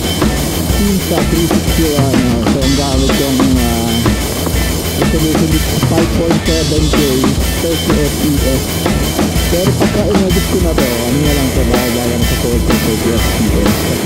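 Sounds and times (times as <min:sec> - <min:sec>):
drum kit steady beat: 0:00.0 - 0:14.0.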